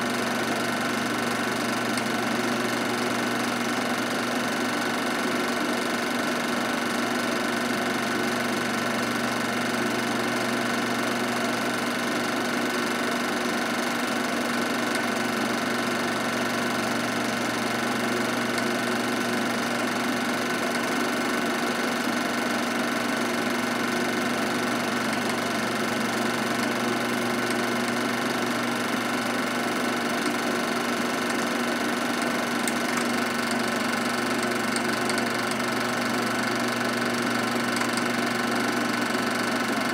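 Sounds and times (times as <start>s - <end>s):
movie projector whirring: 0.0s - 39.9s.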